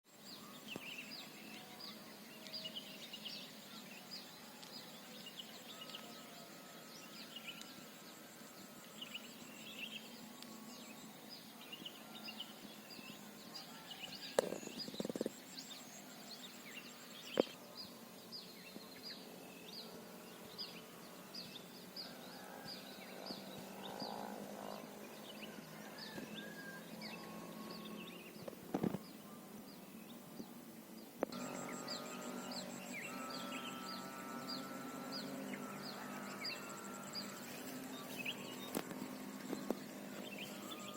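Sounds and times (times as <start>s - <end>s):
songbirds chirping: 0.0s - 40.9s
faint outdoor hiss: 0.1s - 40.9s.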